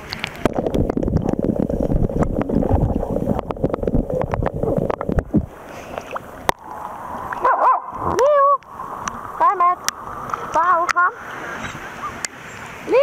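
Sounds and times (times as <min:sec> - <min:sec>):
water bubbling: 0:00.0 - 0:12.5
water sloshing and splashing: 0:00.0 - 0:13.0.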